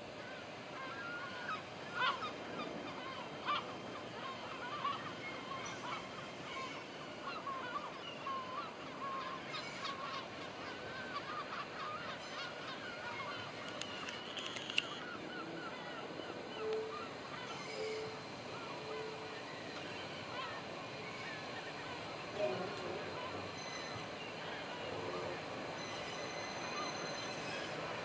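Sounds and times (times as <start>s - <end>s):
geese honking: 0.2s - 27.7s.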